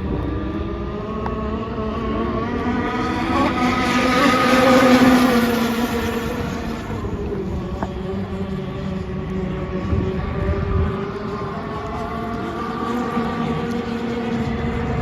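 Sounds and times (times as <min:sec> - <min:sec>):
model speedboat engine passing: 0:00.0 - 0:15.0.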